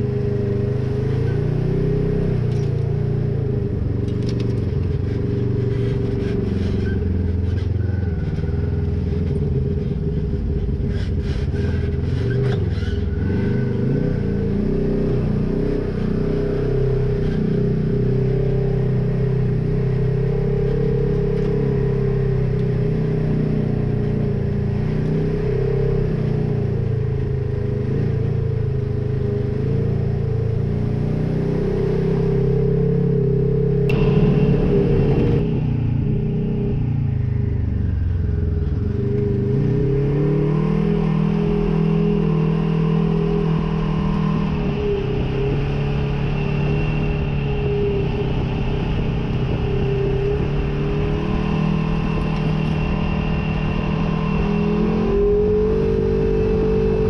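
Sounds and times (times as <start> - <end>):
vehicle engine running: 0.0 - 31.4, 32.2 - 57.0.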